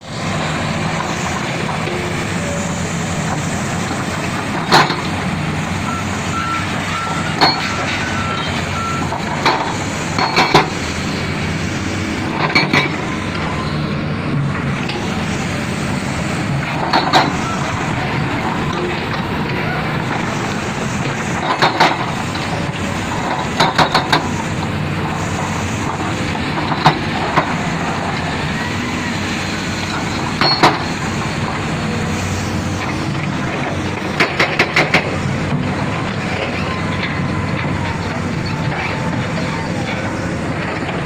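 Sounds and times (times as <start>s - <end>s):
heavy machinery running: 0.0s - 41.0s.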